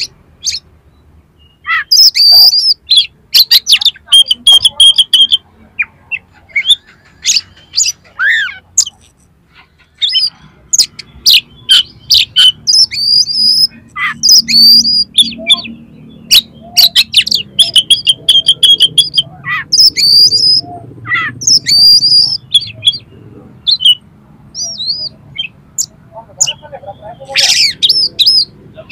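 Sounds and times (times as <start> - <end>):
magpie-robin singing: 0.0 - 28.9.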